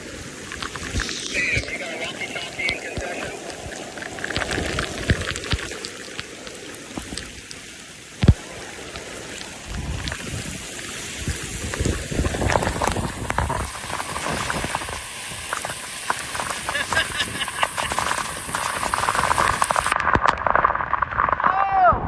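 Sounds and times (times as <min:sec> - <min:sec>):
rain hissing: 0:00.0 - 0:20.6
raindrops pattering: 0:00.0 - 0:21.6.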